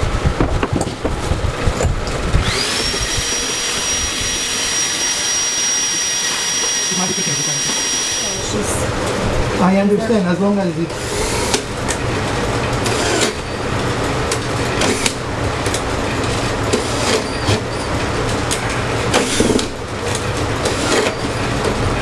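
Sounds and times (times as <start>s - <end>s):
woodworking machine humming: 0.0s - 22.0s.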